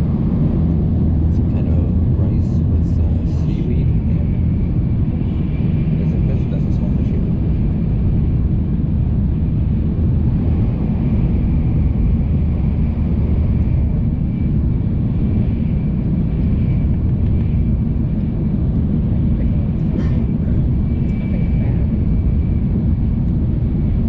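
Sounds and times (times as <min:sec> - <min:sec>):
train running low rumble: 0:00.0 - 0:24.0.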